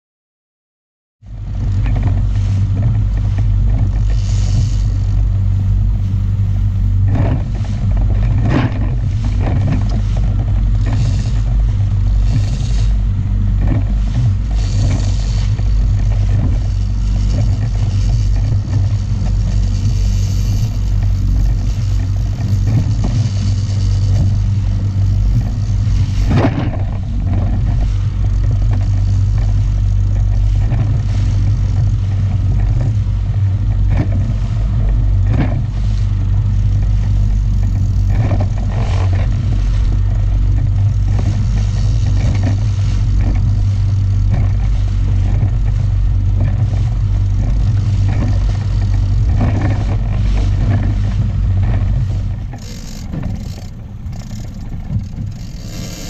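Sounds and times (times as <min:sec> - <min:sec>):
outboard motor running: 0:01.2 - 0:56.0
water rushing: 0:01.4 - 0:56.0.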